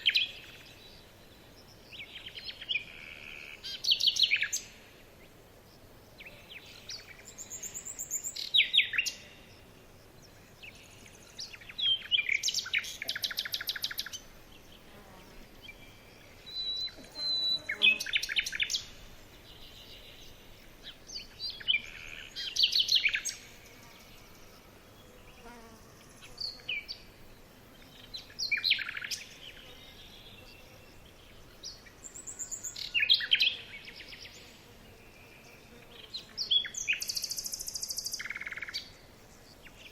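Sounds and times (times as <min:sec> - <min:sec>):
songbird singing with trills: 0:00.0 - 0:39.9.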